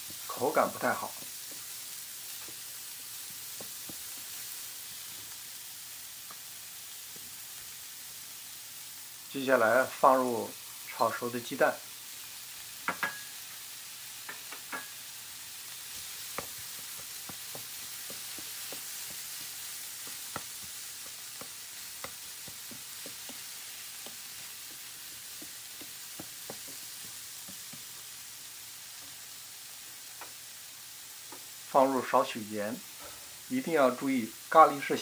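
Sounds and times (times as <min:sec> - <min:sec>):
vegetables and egg sizzling: 0:00.0 - 0:35.0.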